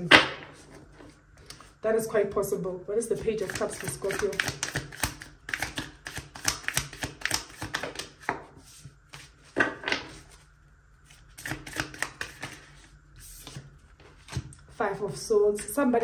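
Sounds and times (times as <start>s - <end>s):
cards being shuffled: 0.6s - 1.8s, 3.2s - 10.4s, 11.0s - 15.7s.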